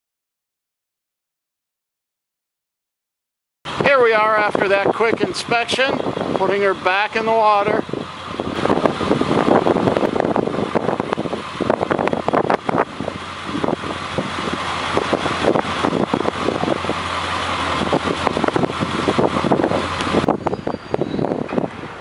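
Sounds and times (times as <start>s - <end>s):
engine running steadily: 3.7s - 22.0s
wind buffeting microphone: 3.7s - 22.0s.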